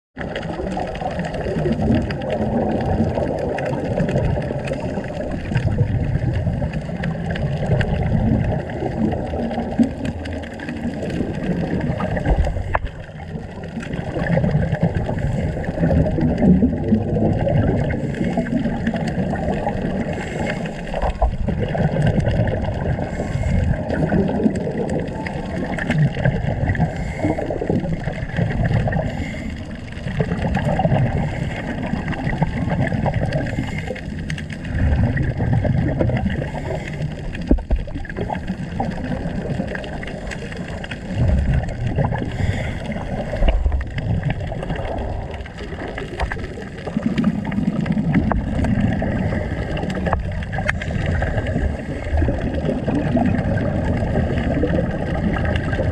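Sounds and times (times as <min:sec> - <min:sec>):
low rush of water: 0:00.2 - 0:55.9
regulator bubbles gurgling underwater: 0:00.2 - 0:55.9.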